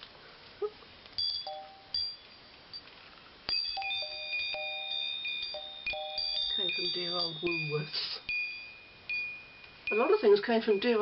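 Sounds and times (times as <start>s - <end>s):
small metal chimes tinkling: 1.2s - 11.0s.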